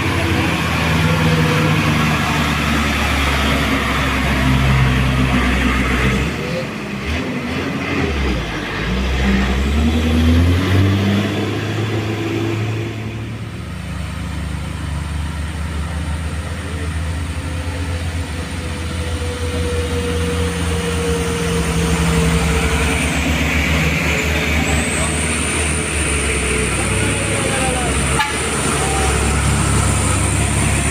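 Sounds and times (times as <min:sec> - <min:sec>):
heavy diesel truck engine labouring: 0:00.0 - 0:30.9.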